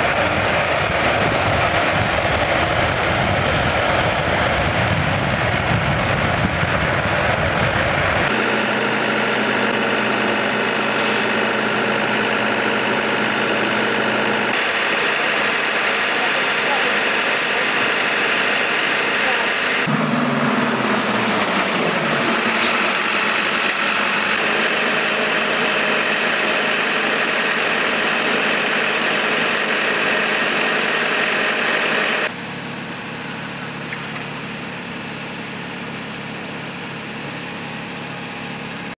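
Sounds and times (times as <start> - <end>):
fire truck engine running: 0.0 - 39.0
high whine: 0.0 - 39.0.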